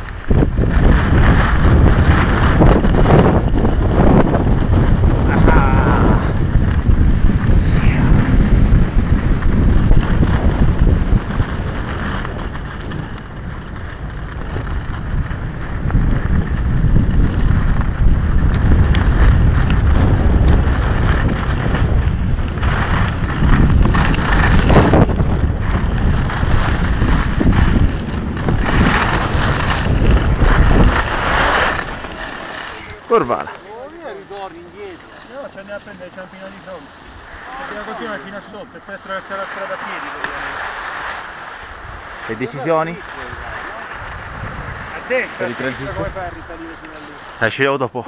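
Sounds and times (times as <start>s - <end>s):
wind buffeting microphone: 0.0s - 47.7s
skis scraping on snow: 0.0s - 48.0s.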